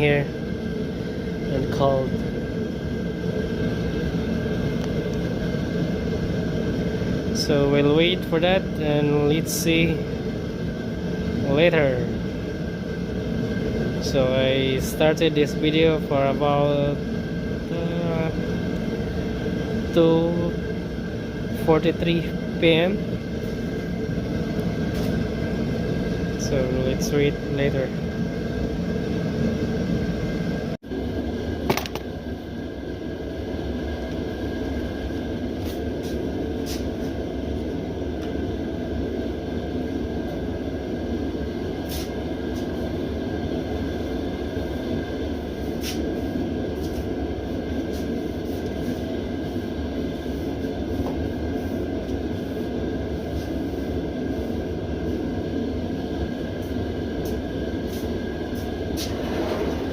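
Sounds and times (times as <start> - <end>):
propane heater burner rumble: 0.0 - 59.9.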